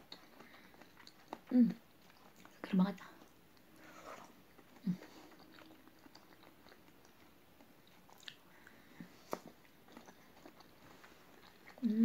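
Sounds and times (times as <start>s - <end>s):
mouth chewing jelly: 0.0s - 12.0s.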